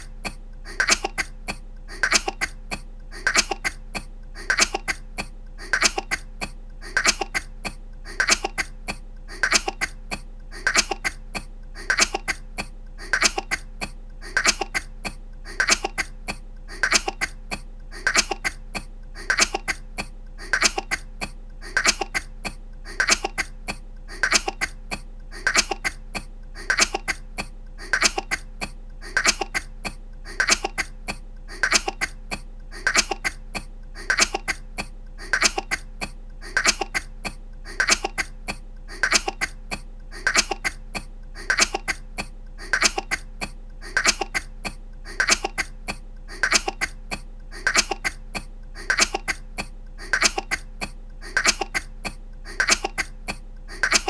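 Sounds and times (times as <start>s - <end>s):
woman coughing: 0.0s - 54.0s.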